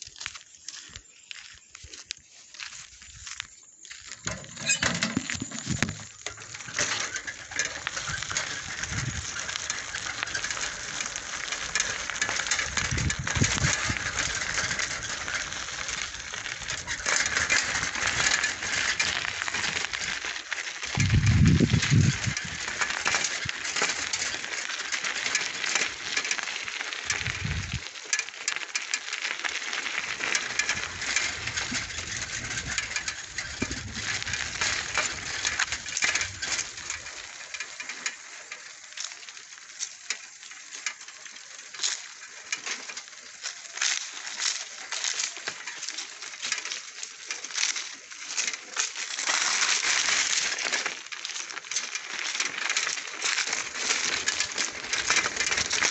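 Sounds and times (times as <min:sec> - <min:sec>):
footsteps crunching dry leaves: 0:00.0 - 0:55.9.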